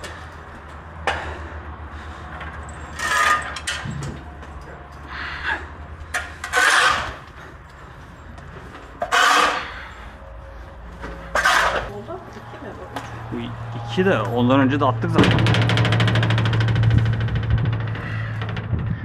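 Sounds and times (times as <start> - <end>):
low hum: 0.1 - 19.0.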